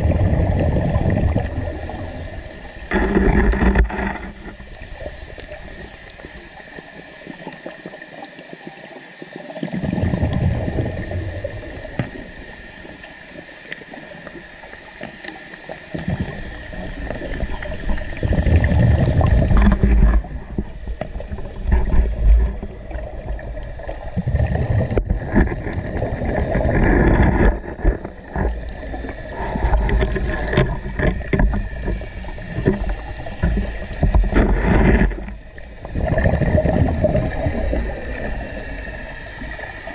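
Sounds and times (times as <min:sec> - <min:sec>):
rumbling exhaust bubbles: 0:00.0 - 0:06.5, 0:09.7 - 0:12.5, 0:16.0 - 0:39.9
steady hiss: 0:00.4 - 0:36.2, 0:37.0 - 0:39.9.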